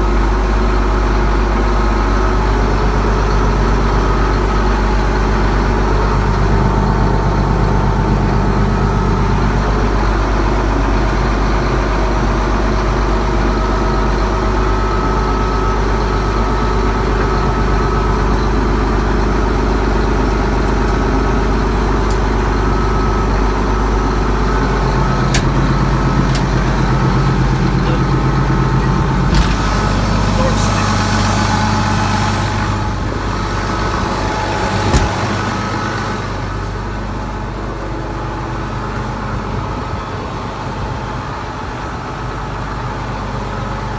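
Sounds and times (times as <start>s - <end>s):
tractor diesel engine idling: 0.0s - 43.9s.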